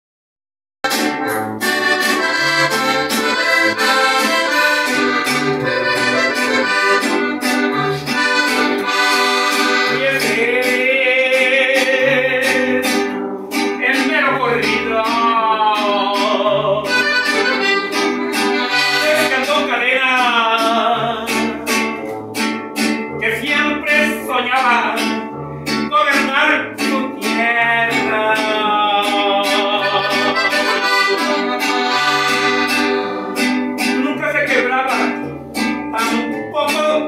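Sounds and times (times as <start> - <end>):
accordion melody: 0.8 - 34.2, 35.0 - 37.0
acoustic guitar strumming: 0.8 - 37.0.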